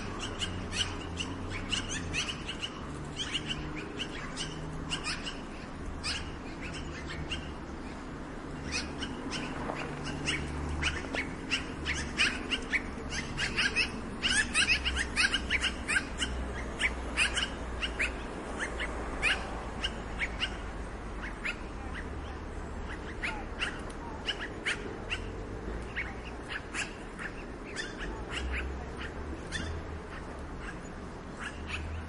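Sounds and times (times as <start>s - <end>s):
magpie calling: 0.0s - 32.0s.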